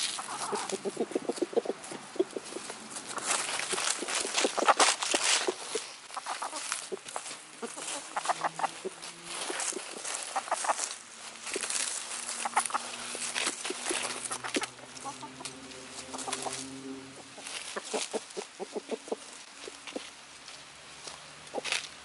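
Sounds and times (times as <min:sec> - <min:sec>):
chickens clucking: 0:00.0 - 0:20.2, 0:21.0 - 0:21.8
dry leaves crackling: 0:00.0 - 0:22.0.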